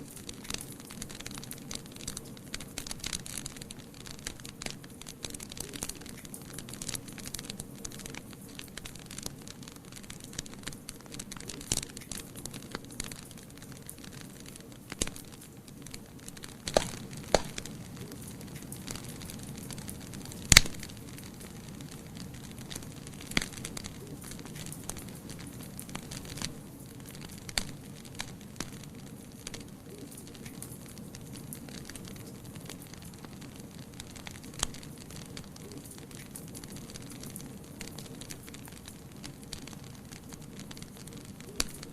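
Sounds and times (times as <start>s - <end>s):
burning logs crackling and popping: 0.0s - 41.9s
fire flames rushing: 0.1s - 41.9s.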